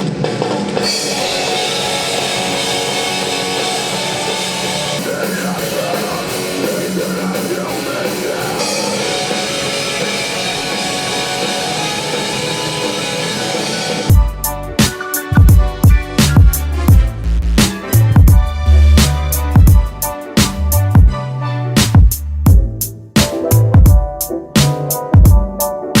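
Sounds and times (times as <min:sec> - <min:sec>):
rock music with electric guitar: 0:00.0 - 0:21.1.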